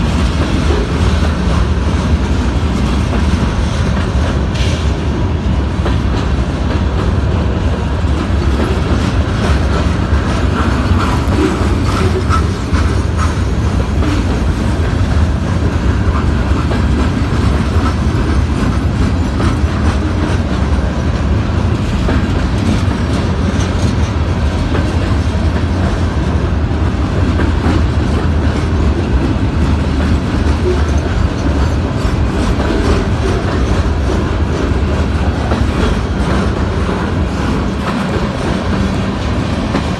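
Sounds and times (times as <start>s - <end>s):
freight train cars rolling past: 0.0s - 39.9s
steel wheels clacking over rail joints: 0.0s - 39.9s.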